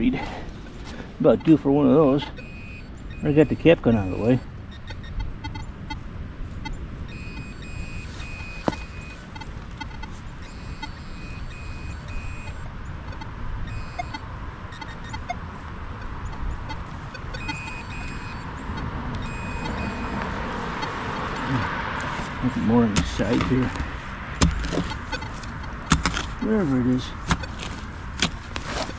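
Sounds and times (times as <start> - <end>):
metal detector beeping: 1.2 - 28.9.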